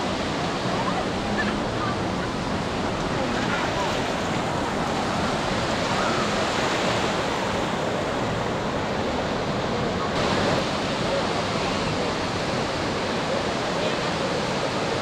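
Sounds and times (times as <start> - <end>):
faint crowd voices: 0.0 - 15.0
ocean surf on beach: 0.0 - 15.0.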